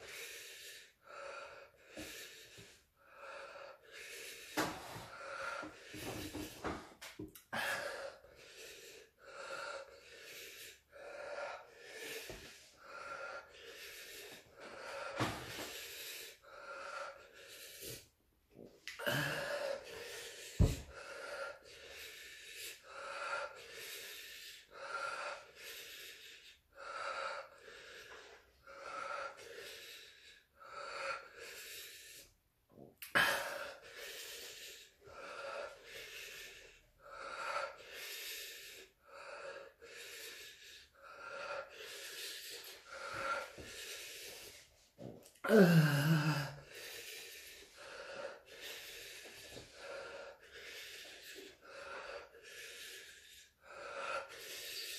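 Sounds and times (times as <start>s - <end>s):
man panting and wheezing: 0.0s - 54.9s.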